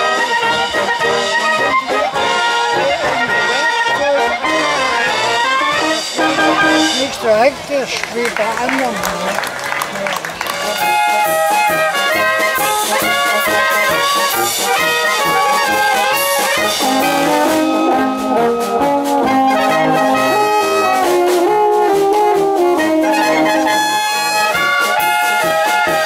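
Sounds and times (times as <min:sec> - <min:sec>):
low brass line: 0:00.0 - 0:07.7, 0:10.4 - 0:26.0
brass band playing: 0:00.0 - 0:26.0.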